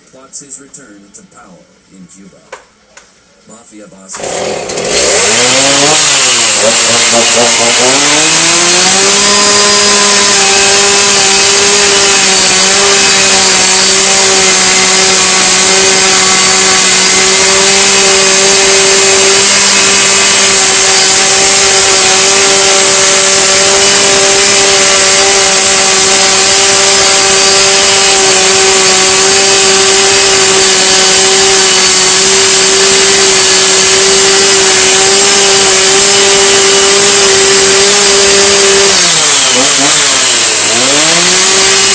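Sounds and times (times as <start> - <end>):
chainsaw engine at high revs: 4.1 - 41.9.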